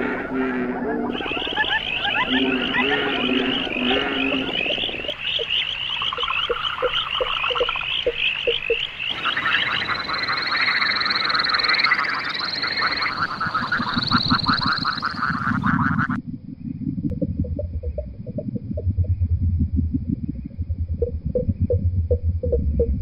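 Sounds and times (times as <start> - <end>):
frogs chirping: 0.0 - 19.2
low frog croaks: 0.0 - 19.2
frogs fast pulsed trills: 0.9 - 23.0.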